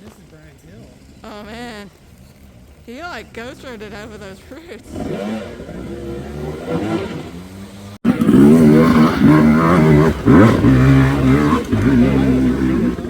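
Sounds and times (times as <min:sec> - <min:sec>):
dirt bike engine revving: 0:00.0 - 0:13.0
quieter engine sound: 0:00.0 - 0:13.0.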